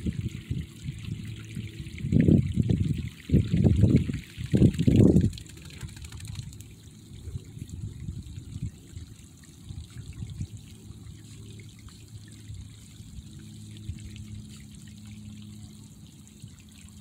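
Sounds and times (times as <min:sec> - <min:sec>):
muddy water trickling: 0:00.0 - 0:17.0.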